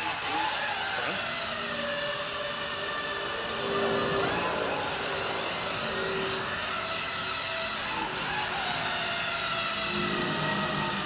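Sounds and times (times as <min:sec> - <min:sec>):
quadcopter propellers whirring: 0:00.0 - 0:11.0.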